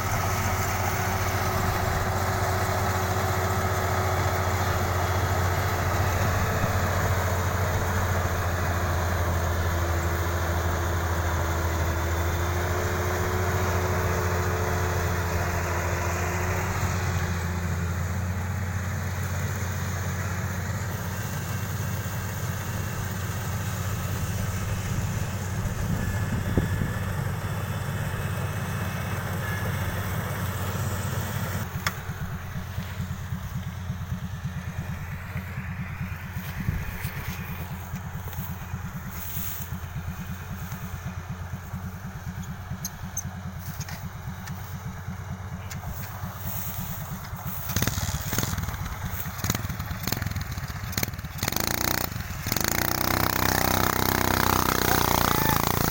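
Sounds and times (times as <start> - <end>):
harvester engine running: 0.0 - 55.9.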